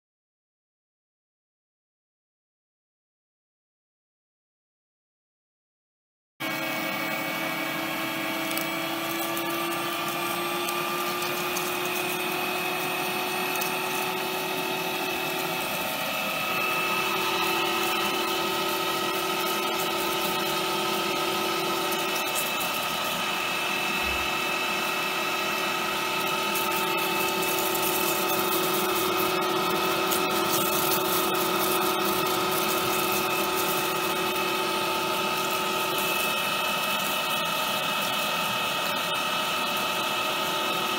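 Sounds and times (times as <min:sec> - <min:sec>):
electric meat grinder whining: 0:06.4 - 0:40.9.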